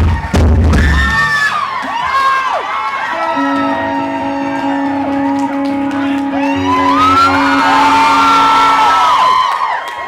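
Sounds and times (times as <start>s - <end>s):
audience whooping: 0.0s - 10.0s.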